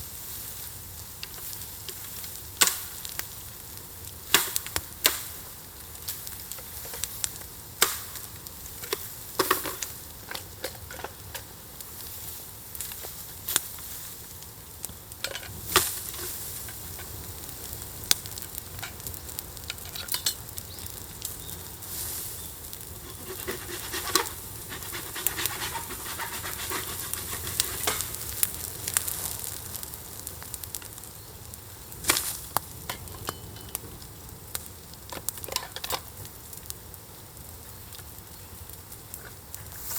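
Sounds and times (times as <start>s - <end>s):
campfire crackling and popping: 0.0s - 39.9s
fire hissing: 0.0s - 39.9s.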